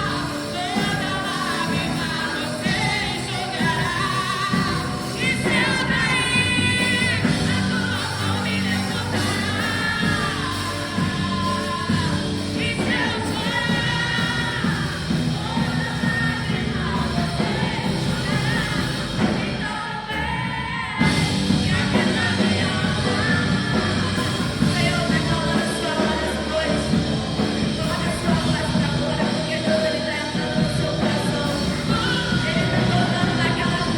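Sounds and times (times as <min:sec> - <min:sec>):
person singing lead vocals: 0:00.0 - 0:33.9
worship band playing: 0:00.0 - 0:33.9.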